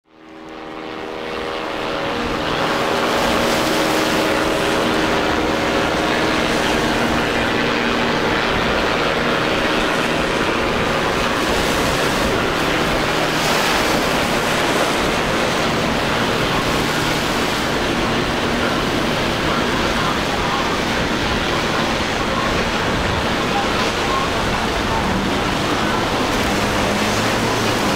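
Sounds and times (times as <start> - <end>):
outboard motor drone: 0.0 - 27.9
waves and spray: 0.2 - 27.9.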